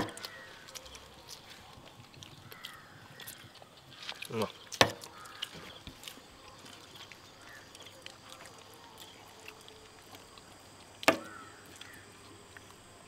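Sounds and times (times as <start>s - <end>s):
faint insect drone: 0.0s - 13.0s.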